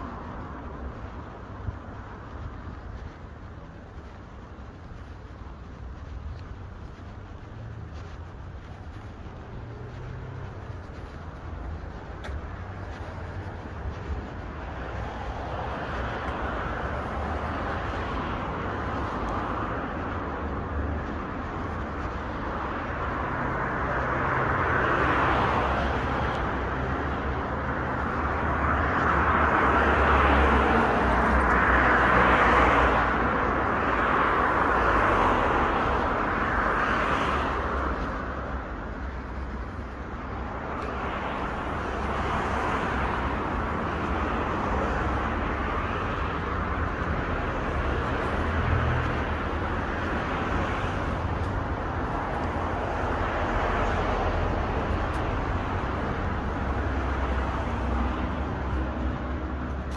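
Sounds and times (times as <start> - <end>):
cars passing: 0.0 - 59.9
steady low rumble: 0.0 - 59.9.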